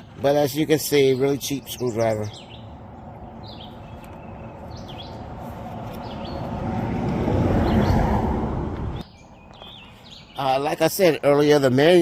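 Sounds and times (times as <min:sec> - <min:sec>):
small birds chirping: 0:00.0 - 0:06.6, 0:07.6 - 0:08.0, 0:08.8 - 0:12.0.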